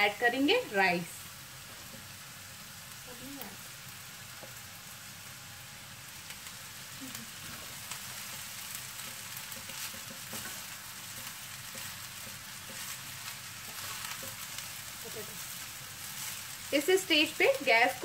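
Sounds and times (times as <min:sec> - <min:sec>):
rice and vegetables sizzling: 0:00.0 - 0:18.0.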